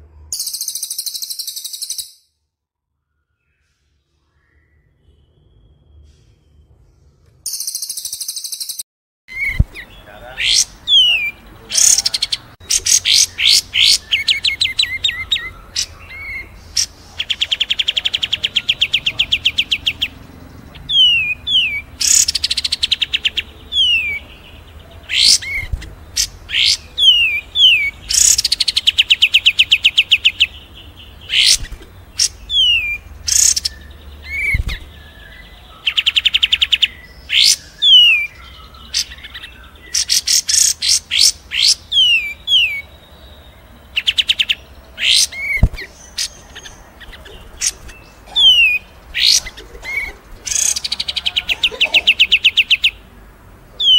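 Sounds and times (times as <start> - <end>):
songbirds singing: 0.0 - 2.3, 2.9 - 53.9.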